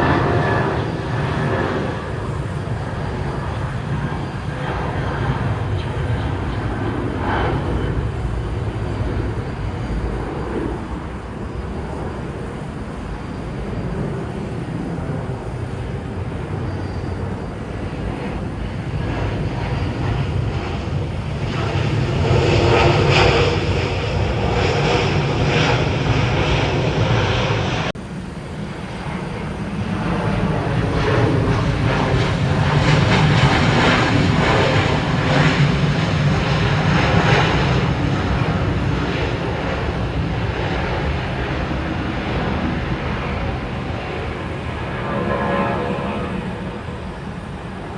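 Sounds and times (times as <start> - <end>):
jet airliner engines running: 0.0 - 47.9.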